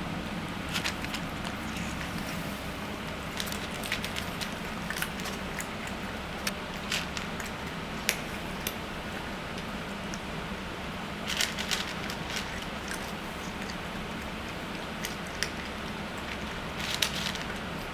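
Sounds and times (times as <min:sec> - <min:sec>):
steady low hum: 0:00.0 - 0:17.9
cat chewing food: 0:00.4 - 0:17.9.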